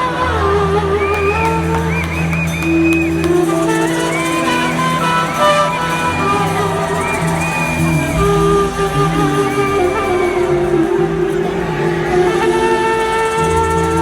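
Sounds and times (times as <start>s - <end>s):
pitch-bending melody notes: 0.0s - 14.0s.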